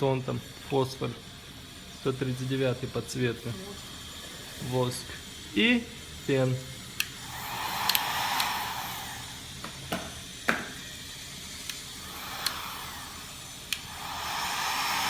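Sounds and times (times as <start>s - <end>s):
hair dryer blowing: 1.5s - 15.0s.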